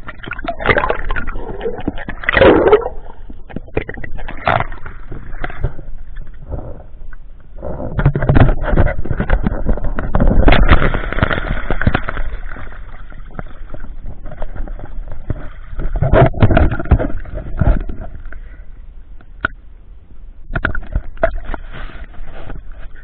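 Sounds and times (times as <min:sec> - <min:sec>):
water sloshing and gurgling: 0:00.0 - 0:19.6.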